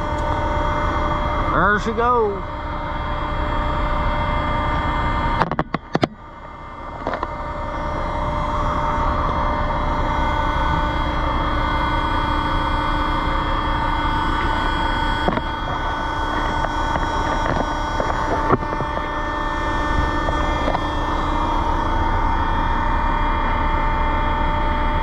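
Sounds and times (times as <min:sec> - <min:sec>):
heavy machinery humming: 0:00.0 - 0:25.0.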